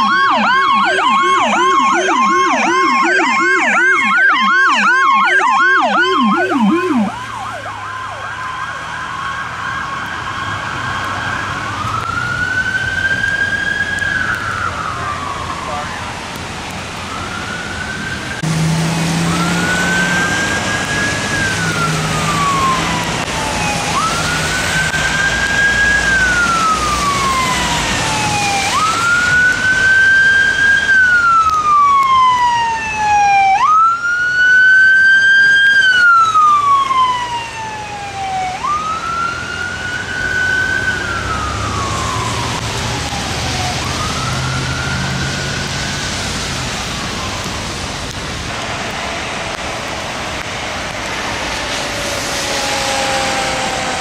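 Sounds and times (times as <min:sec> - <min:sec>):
emergency vehicle siren wailing: 0:00.0 - 0:54.0
rain and wet tyres hiss: 0:05.2 - 0:54.0.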